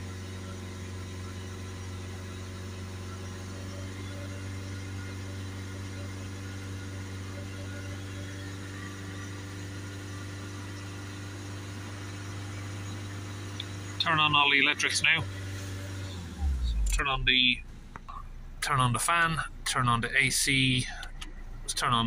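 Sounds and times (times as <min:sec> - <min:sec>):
car engine at raised revs: 0:00.0 - 0:22.0.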